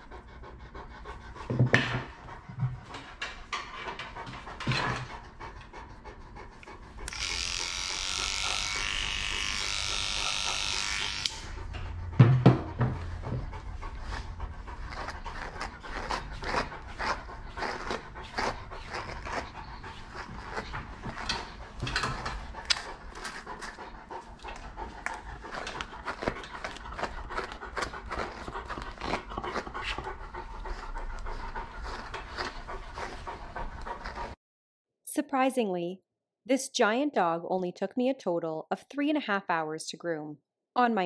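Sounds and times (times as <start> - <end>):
dog panting: 0.0 - 34.4.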